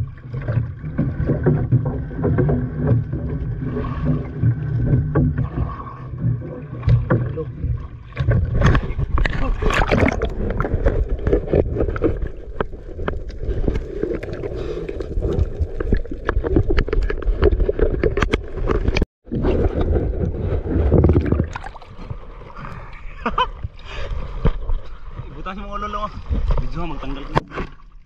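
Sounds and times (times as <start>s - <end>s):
sea water splashing around boat: 0.0s - 28.0s.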